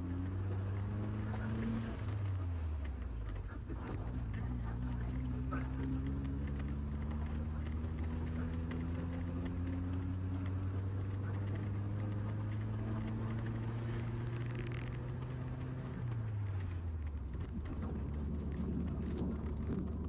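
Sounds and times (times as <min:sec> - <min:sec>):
car engine running: 0:00.0 - 0:20.0
road noise on dirt road: 0:00.0 - 0:20.0.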